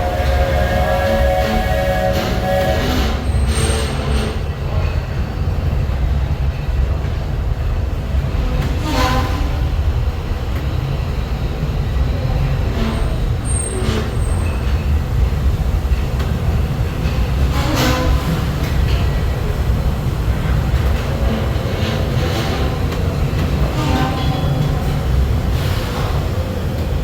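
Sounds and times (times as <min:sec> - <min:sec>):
train clank: 0:00.0 - 0:27.0
train rumbling along track: 0:00.0 - 0:27.0.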